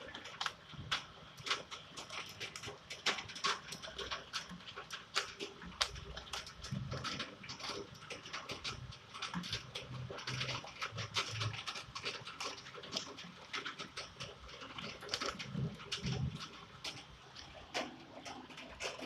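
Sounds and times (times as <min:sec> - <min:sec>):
hail and rain on hard surface: 0:00.0 - 0:19.0.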